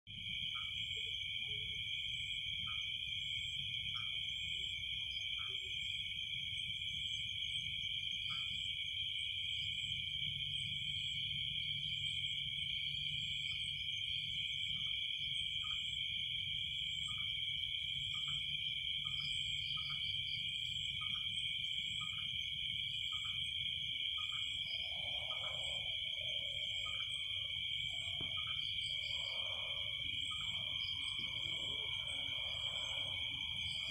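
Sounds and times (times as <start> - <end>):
insects trilling: 0.2 - 33.9.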